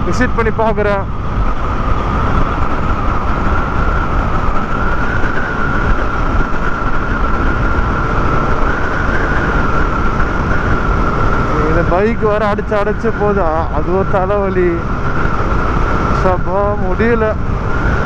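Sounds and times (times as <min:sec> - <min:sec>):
motorcycle engine whine: 0:00.0 - 0:18.0
wind and road noise: 0:00.0 - 0:18.0.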